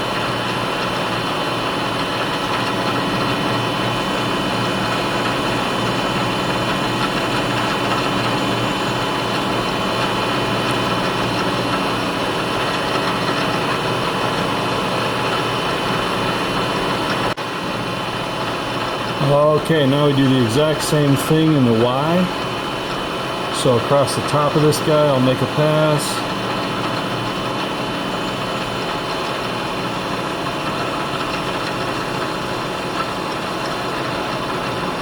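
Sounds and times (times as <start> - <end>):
milling machine cutting whine: 0.0 - 35.0.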